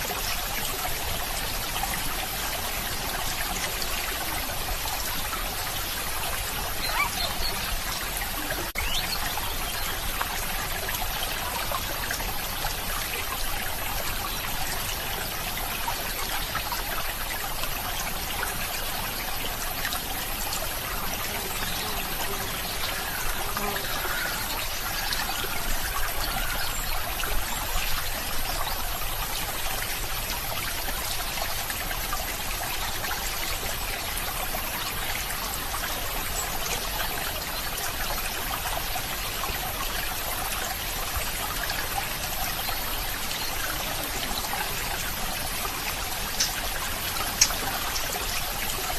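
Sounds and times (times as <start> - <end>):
water trickling in a stream: 0.0 - 48.9.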